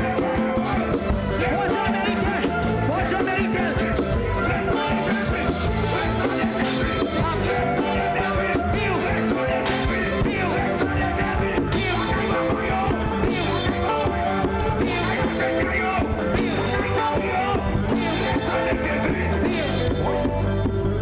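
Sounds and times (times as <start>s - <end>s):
band playing upbeat song: 0.0s - 21.0s
drums and cymbals: 0.0s - 21.0s.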